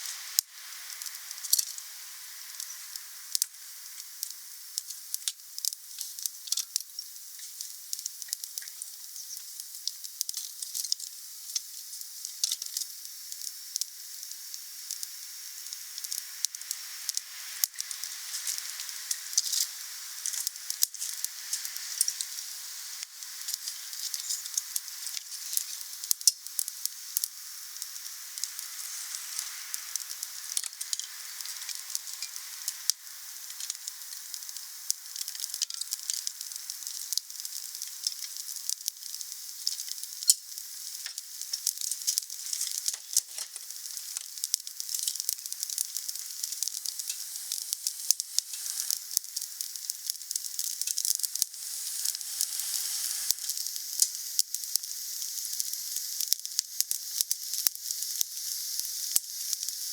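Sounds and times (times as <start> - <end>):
wood fire crackling: 0.0 - 58.5.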